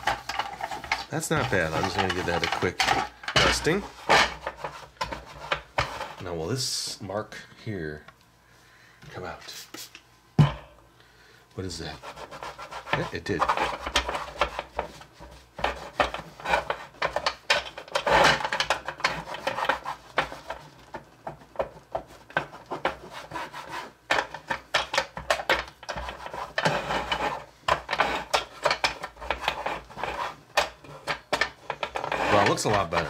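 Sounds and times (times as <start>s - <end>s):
paper towel scrubbing plastic: 0.0s - 6.4s, 11.7s - 33.0s.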